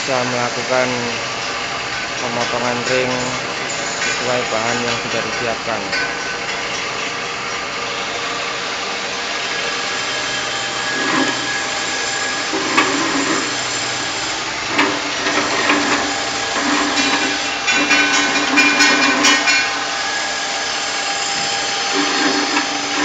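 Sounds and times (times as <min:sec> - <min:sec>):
grinding as cups are cut: 0:00.0 - 0:23.0
ring-cutting machine running: 0:00.0 - 0:23.0.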